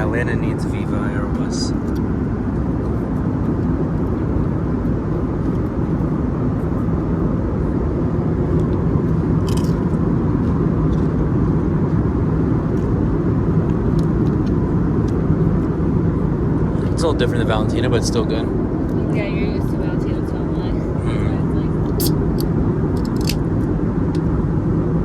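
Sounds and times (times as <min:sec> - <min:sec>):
airplane cabin engine roar: 0:00.0 - 0:25.0.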